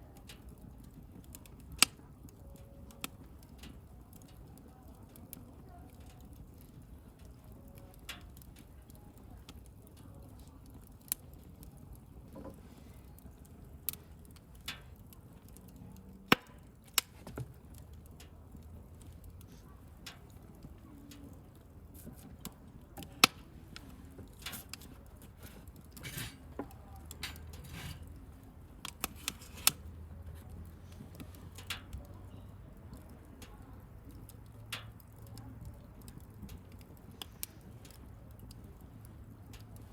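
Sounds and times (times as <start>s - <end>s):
bonfire crackling: 0.0s - 39.9s
low rumble of burning: 0.0s - 39.9s.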